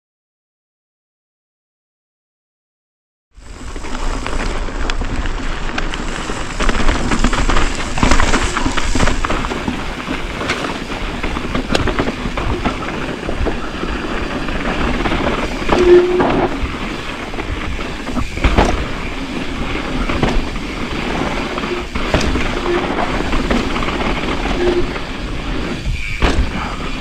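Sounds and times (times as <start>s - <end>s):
bike rattling over bumps: 3.4s - 27.0s
wind rumble on microphone: 3.4s - 27.0s
tyres crunching over dirt: 3.5s - 27.0s.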